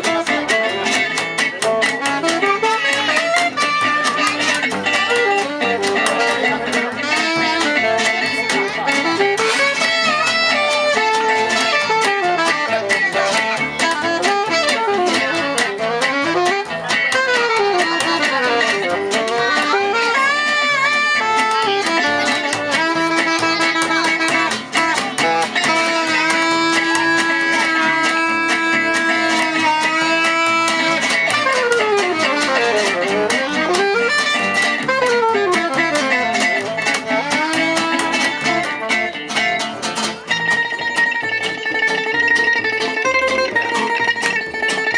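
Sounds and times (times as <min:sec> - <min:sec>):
gypsy jazz band playing: 0:00.0 - 0:44.9
plucked guitar: 0:00.0 - 0:44.9
sliding lead melody: 0:00.0 - 0:44.9.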